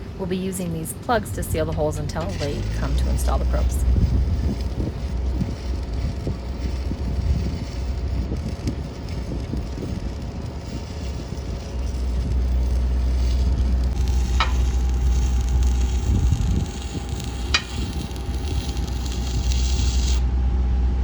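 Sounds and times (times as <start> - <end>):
low hum: 0.0 - 21.0
arc welding crackling sizzle: 0.4 - 20.3.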